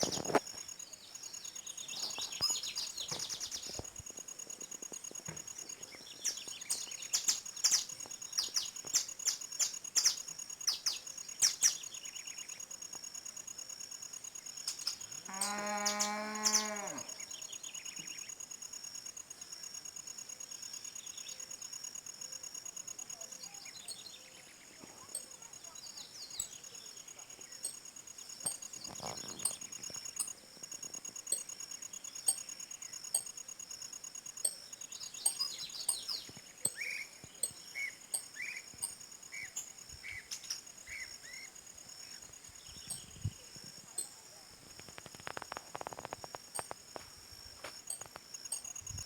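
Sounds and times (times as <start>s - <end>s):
wild birds chirping: 0.0s - 12.8s, 14.2s - 18.5s, 20.4s - 46.8s
high-pitched insect chorus: 0.0s - 49.0s.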